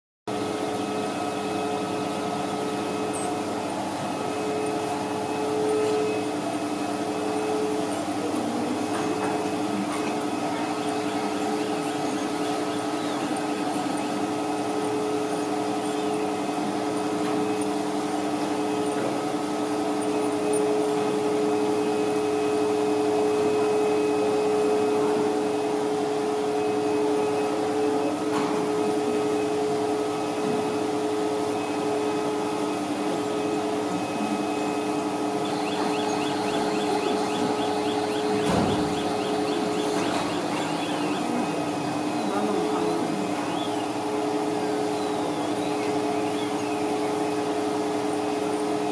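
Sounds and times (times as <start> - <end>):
electric motor hum and whirr: 0.3 - 48.9.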